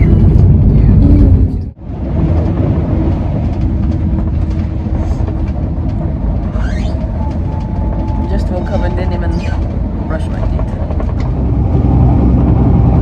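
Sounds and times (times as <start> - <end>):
train running rumble inside coach: 0.0 - 13.0.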